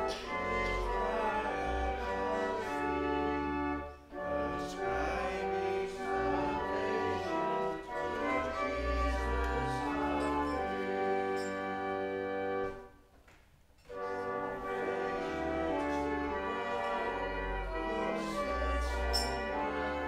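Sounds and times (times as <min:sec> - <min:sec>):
church organ playing a hymn: 0:00.0 - 0:13.1, 0:13.8 - 0:20.0.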